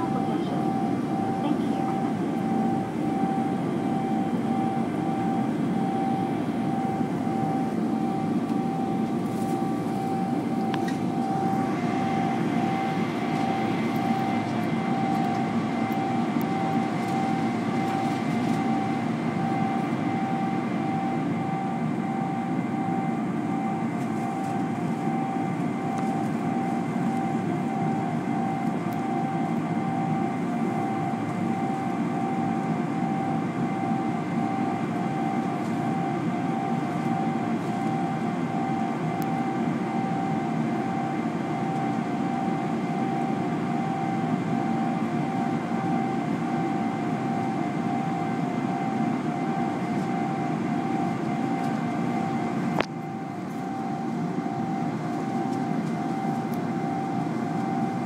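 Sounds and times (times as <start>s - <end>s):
jet engine rumble: 0.0s - 58.0s
steady engine whine: 0.0s - 58.0s.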